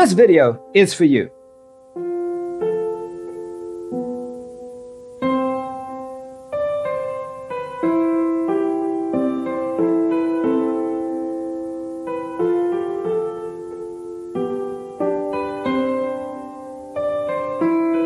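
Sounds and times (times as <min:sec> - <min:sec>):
slow solo piano: 0:01.3 - 0:18.0.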